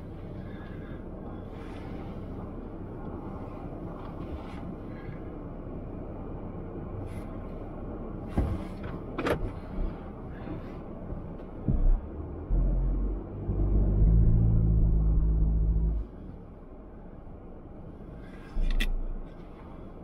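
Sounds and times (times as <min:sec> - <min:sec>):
car engine idling: 0:00.0 - 0:20.0
loud low engine rumble: 0:00.0 - 0:20.0.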